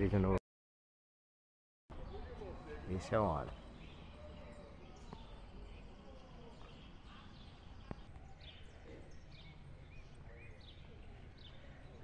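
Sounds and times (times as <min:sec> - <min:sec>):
small birds chirping: 0:01.9 - 0:12.0.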